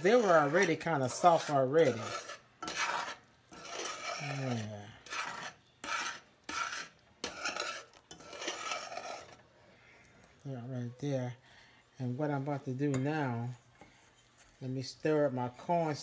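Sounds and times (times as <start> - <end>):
utensil scraping saucepan: 0.0 - 9.5, 12.0 - 16.0
syrup simmering: 0.0 - 15.0.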